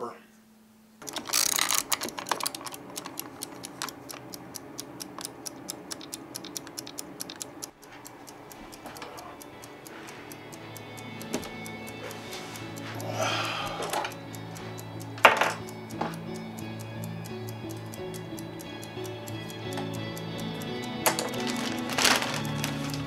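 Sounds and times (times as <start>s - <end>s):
kitchen timer dial clicking: 1.0s - 23.0s.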